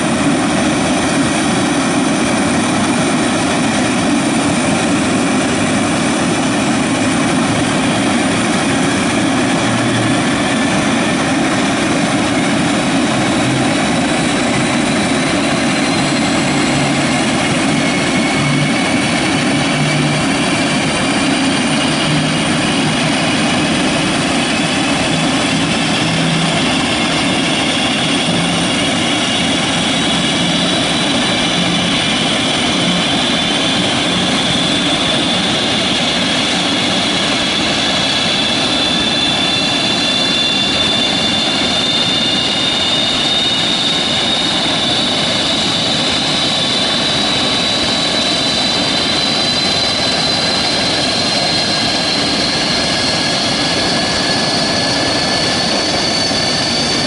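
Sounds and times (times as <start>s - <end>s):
high turbine whine: 0.0s - 57.0s
turboprop engines roaring: 0.0s - 57.0s.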